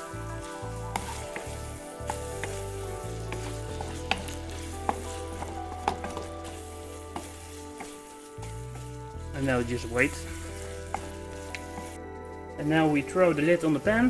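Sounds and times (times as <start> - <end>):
meat sizzling in a frying pan: 0.0 - 12.0
background music: 0.0 - 14.0.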